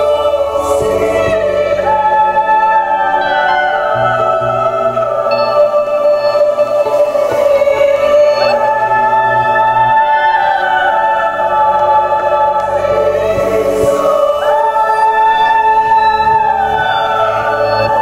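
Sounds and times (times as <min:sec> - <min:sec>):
choir-like sustained tones: 0:00.0 - 0:18.0.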